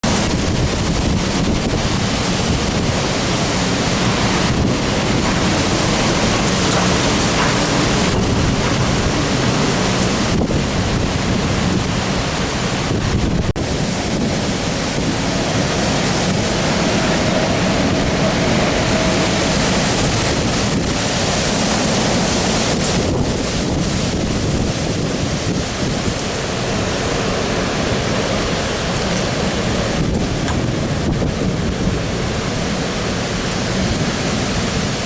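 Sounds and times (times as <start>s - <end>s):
hurricane-force wind blowing: 0.0s - 35.0s
wind buffeting on microphone: 0.0s - 35.0s.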